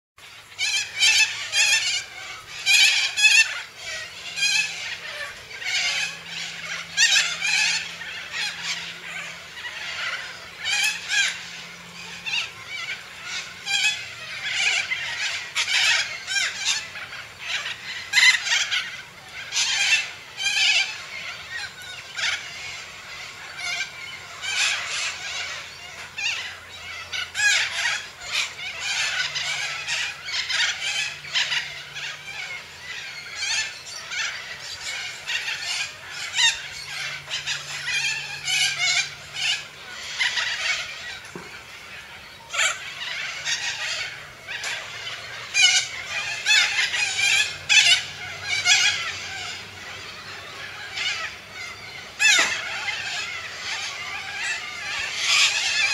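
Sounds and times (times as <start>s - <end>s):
cockatoo harsh rasping calls: 0.2s - 55.9s.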